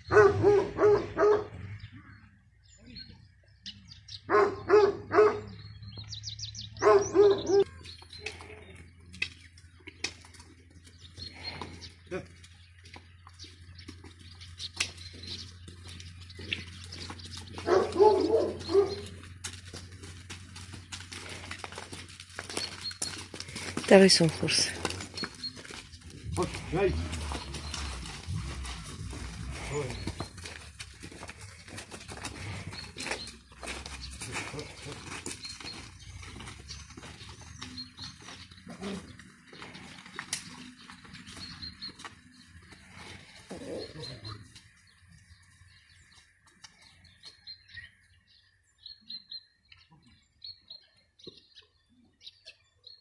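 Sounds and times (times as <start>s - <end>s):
birds chirping: 0.0s - 53.0s
hooves crunching on gravel: 3.9s - 49.4s.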